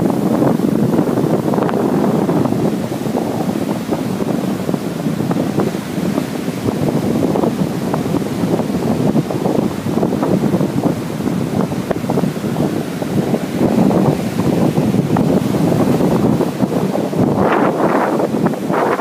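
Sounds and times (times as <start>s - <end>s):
surf breaking: 0.0s - 19.0s
wind buffeting microphone: 0.0s - 19.0s.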